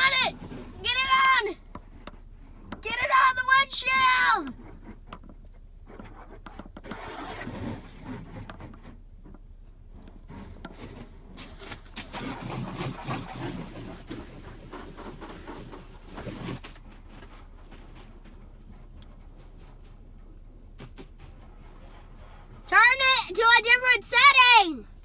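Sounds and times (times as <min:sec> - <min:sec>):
hose water drumming on windshield: 0:00.0 - 0:25.0.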